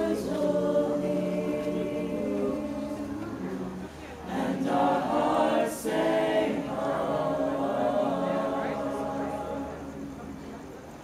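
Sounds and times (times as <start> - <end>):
choir singing a cappella: 0.0 - 10.8.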